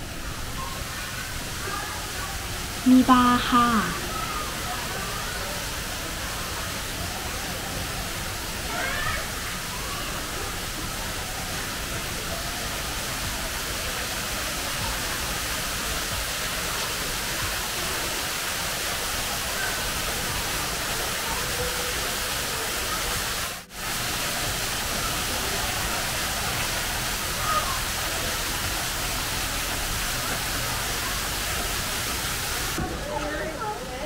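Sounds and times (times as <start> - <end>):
waterfall splashing into pool: 0.0 - 34.0.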